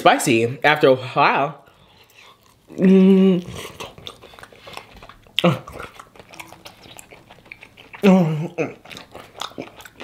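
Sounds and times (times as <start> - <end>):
person chewing with lip smacks: 1.7 - 10.0.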